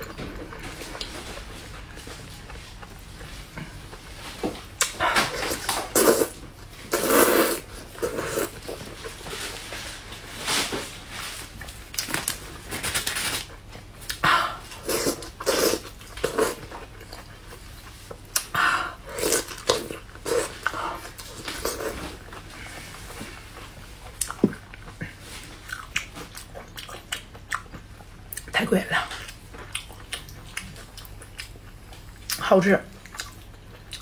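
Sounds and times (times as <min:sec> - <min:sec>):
slurping and chewing food: 0:00.0 - 0:34.0.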